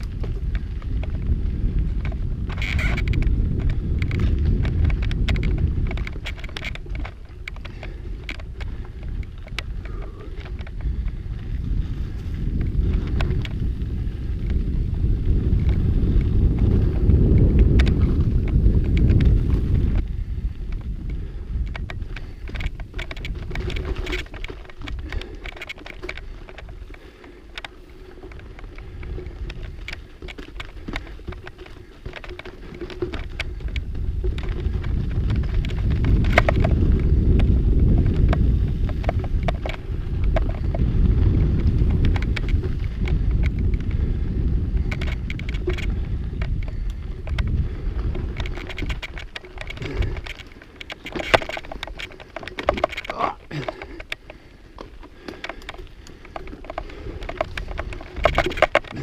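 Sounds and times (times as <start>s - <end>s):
clicks and rattles from bike: 0.0s - 59.0s
rumble of bike tyres: 0.0s - 59.0s
wind buffeting microphone: 0.0s - 59.0s.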